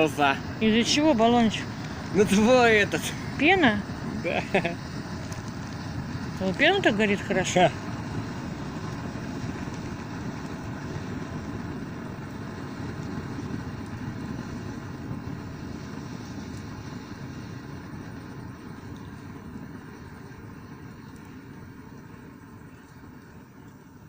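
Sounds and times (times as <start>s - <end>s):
bonfire burning with low rush: 0.0s - 24.0s
faint fire crackles: 0.0s - 24.0s.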